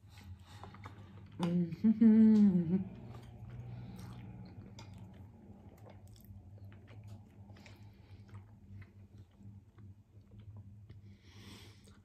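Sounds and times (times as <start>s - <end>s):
chewing chewy food: 0.0s - 12.0s
faint low hum: 0.0s - 12.0s.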